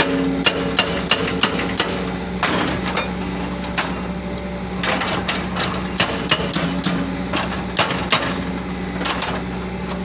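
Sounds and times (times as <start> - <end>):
diesel engine drone: 0.0 - 10.0
hydraulic breaker hammering rock: 0.0 - 10.0.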